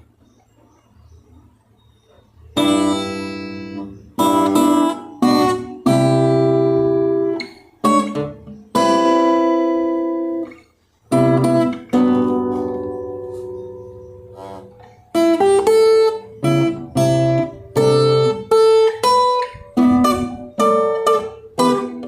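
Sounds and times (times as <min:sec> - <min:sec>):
acoustic guitar strumming chords: 0:02.6 - 0:22.0.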